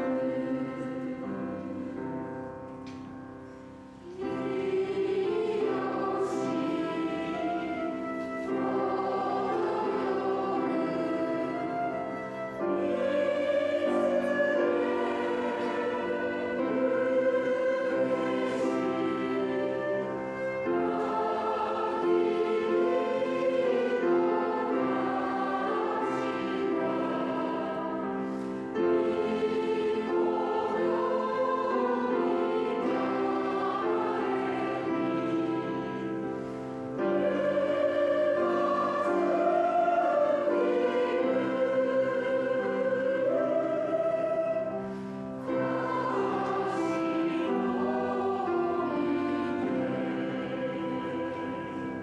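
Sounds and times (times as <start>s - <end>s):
choir singing a hymn: 0.0s - 52.0s.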